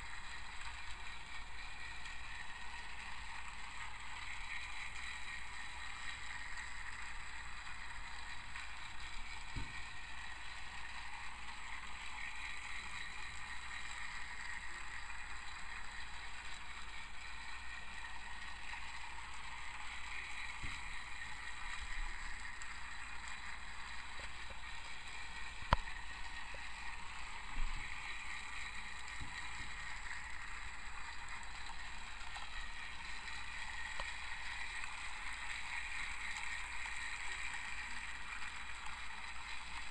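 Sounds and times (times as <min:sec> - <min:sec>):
toy train motor whir: 0:00.0 - 0:39.9.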